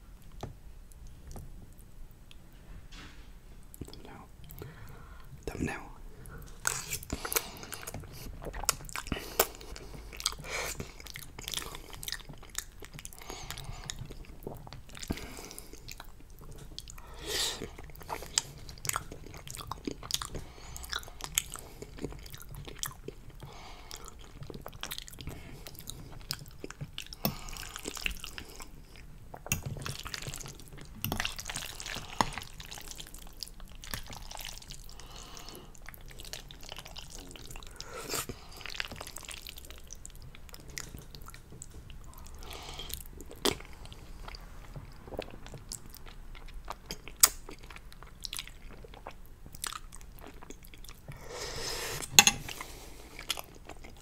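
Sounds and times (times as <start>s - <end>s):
wet chewing and slurping noodles: 6.3s - 54.0s.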